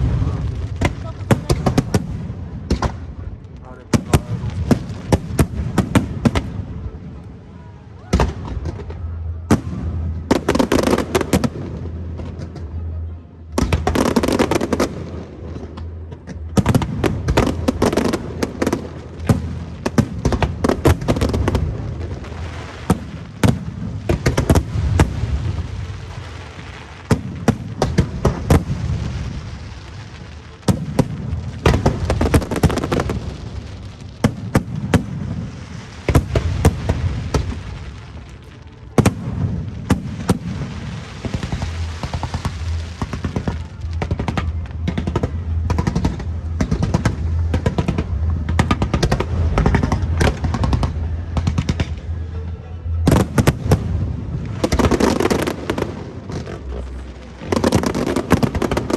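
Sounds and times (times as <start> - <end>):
fireworks bursting: 0.0 - 58.9.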